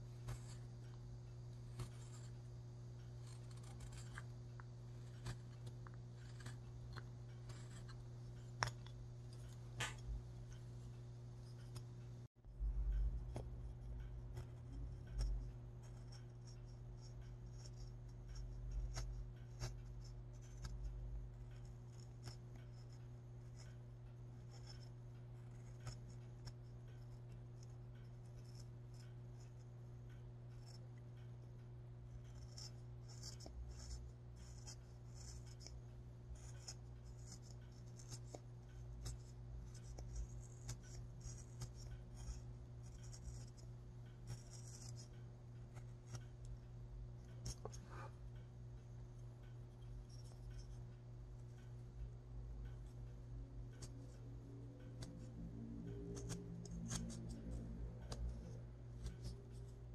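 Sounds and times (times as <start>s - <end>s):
steady low hum: 0.0s - 59.9s
scratching and small clicks: 0.2s - 12.1s, 12.9s - 59.9s.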